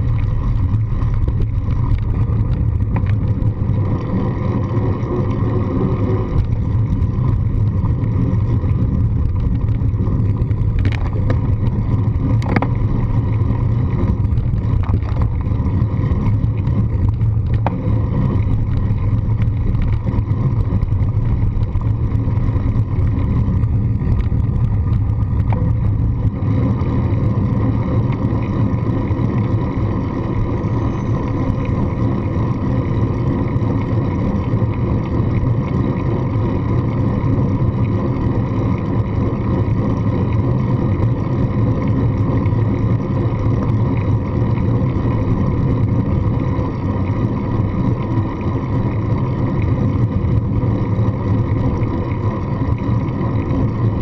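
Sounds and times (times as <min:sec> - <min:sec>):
wind rush on microphone: 0:00.0 - 0:54.0.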